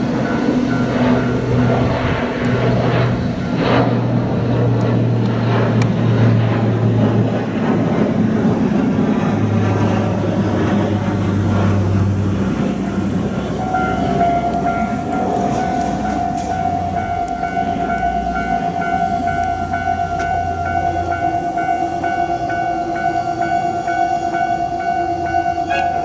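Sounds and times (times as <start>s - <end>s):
diesel locomotive engine running: 0.0s - 26.0s
steady higher tone: 0.0s - 26.0s.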